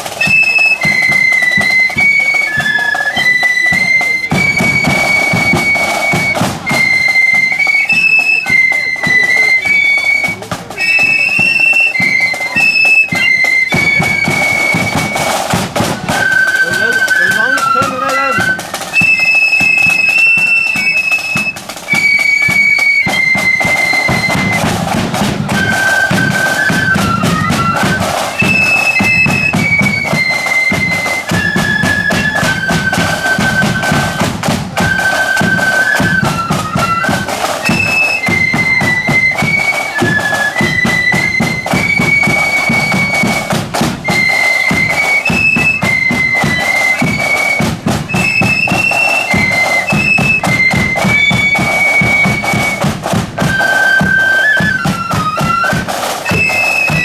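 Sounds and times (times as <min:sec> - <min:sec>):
flutes playing melody: 0:00.0 - 0:57.0
snare and bass drumming: 0:00.0 - 0:57.0.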